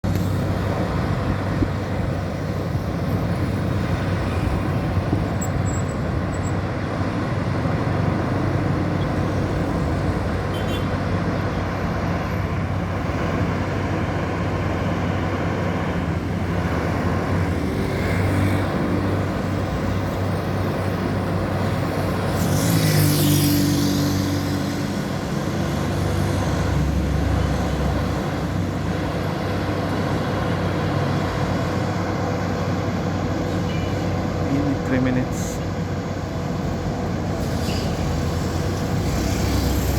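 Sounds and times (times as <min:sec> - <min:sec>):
heavy truck engine running: 0:00.0 - 0:17.9, 0:24.9 - 0:39.9.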